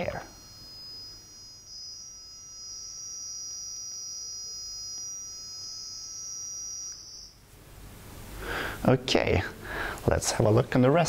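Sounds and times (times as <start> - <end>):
high data signal hiss: 0.0 - 11.0
steady pure high tones: 0.0 - 11.0.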